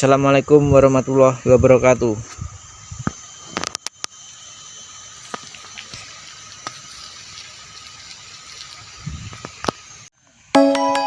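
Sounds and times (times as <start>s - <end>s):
steady hissing noise: 0.0s - 10.6s
faint high whine: 0.0s - 11.0s.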